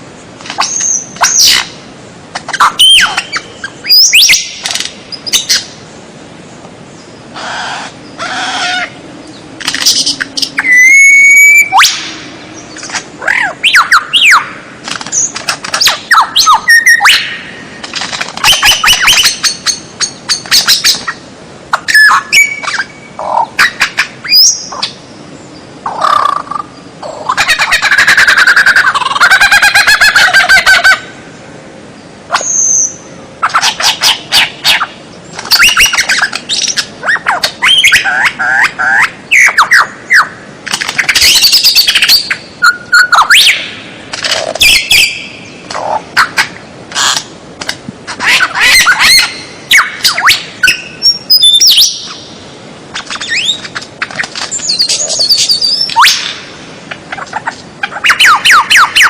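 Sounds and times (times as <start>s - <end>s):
bird calls whistles and trills: 0.5s - 1.8s, 2.4s - 5.8s, 9.6s - 31.0s, 32.3s - 43.8s, 44.4s - 47.2s, 48.2s - 52.3s, 52.9s - 59.0s.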